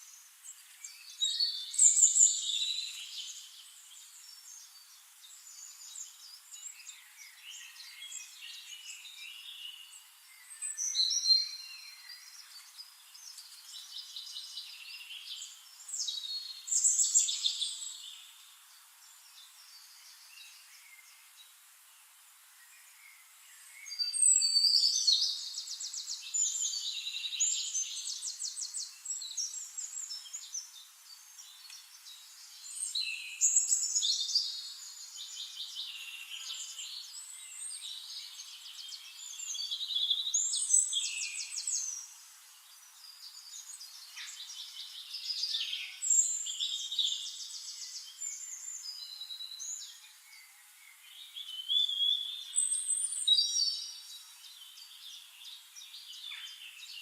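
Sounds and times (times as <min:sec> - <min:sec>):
songbird trilling song: 0:00.0 - 0:21.6, 0:22.6 - 0:57.0.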